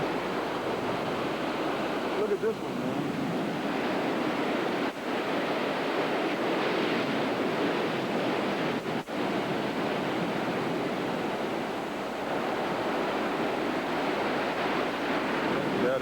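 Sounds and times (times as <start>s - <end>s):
heavy surf: 0.0s - 16.0s
hurricane wind: 0.0s - 16.0s
wind buffeting microphone: 0.0s - 16.0s.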